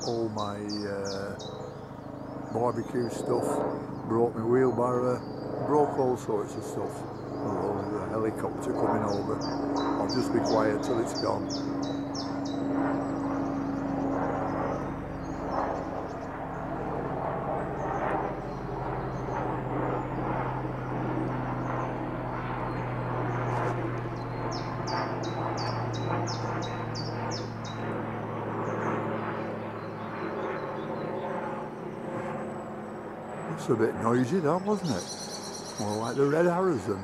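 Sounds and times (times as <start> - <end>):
bird chirping: 0.0 - 5.5, 6.9 - 16.8, 17.6 - 20.3, 22.6 - 28.0, 29.6 - 31.6, 32.4 - 37.0
helicopter flying over: 0.0 - 37.0.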